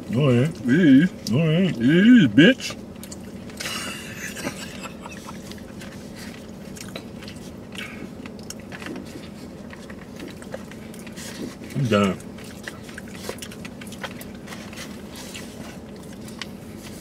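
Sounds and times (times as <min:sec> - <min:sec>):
faint low hum: 0:00.0 - 0:17.0
chewing and biting chicken: 0:02.6 - 0:17.0
food handling crackles: 0:02.7 - 0:17.0.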